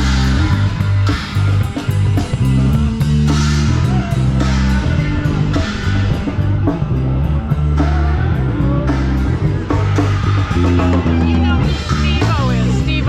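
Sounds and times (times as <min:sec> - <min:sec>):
bass guitar: 0:00.0 - 0:13.0
drum kit: 0:00.0 - 0:13.0
electric guitar: 0:00.0 - 0:13.0
rock music: 0:00.0 - 0:13.0.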